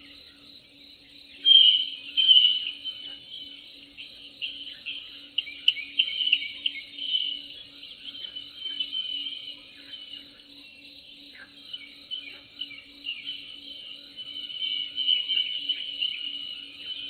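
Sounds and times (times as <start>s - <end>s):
birds chirping and twittering: 0.0s - 17.0s
insect chorus: 0.0s - 17.0s.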